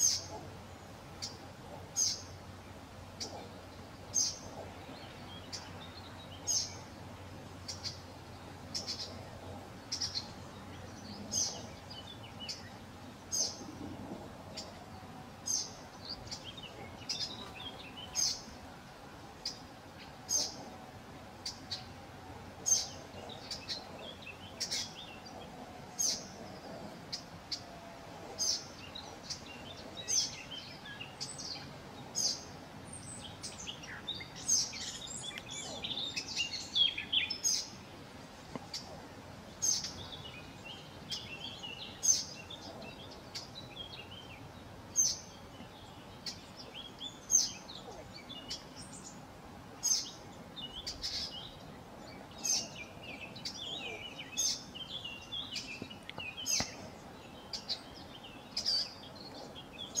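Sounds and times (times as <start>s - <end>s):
birds twittering song: 0.0s - 60.0s
songbirds clicking calls: 0.0s - 60.0s.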